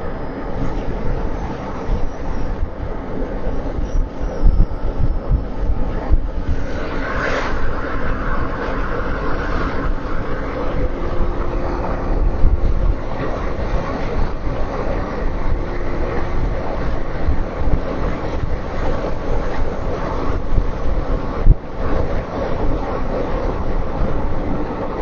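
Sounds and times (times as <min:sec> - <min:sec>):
car road noise: 0:00.0 - 0:25.0.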